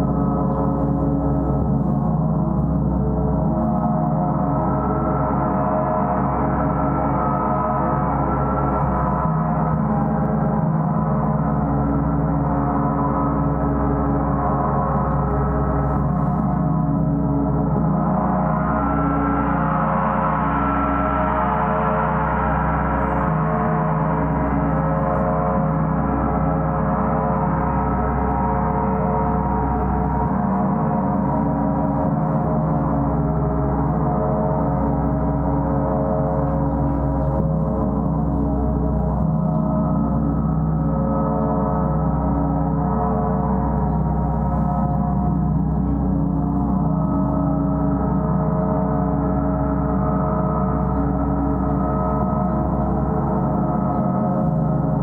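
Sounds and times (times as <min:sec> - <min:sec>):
sustained gong tones: 0:00.0 - 0:55.0.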